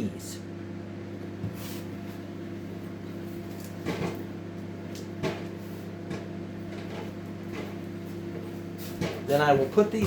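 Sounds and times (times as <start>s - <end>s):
microwave oven humming: 0.0s - 10.0s.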